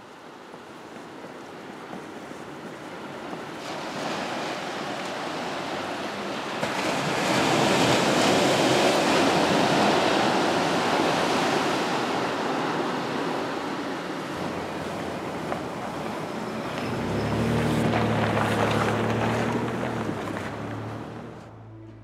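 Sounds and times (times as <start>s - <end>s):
ocean wave rushing: 2.0s - 21.9s.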